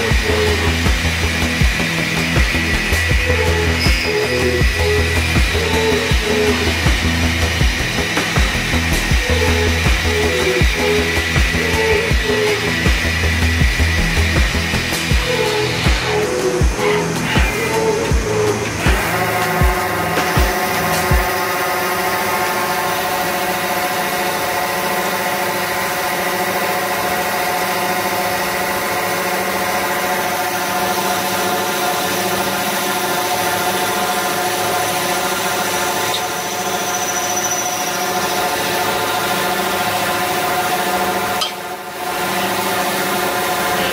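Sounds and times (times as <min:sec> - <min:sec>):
lathe machine whine: 0:00.0 - 0:43.9
rough cutting noise: 0:00.0 - 0:43.9.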